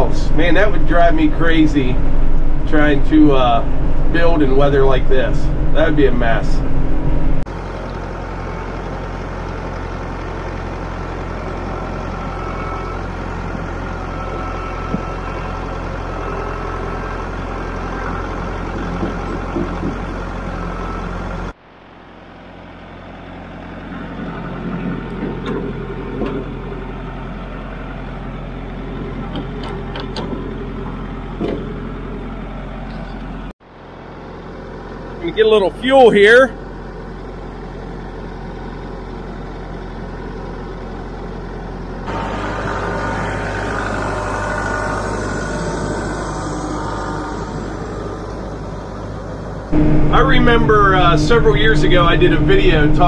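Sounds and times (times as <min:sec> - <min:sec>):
diesel tractor engine running: 0:00.0 - 0:53.0.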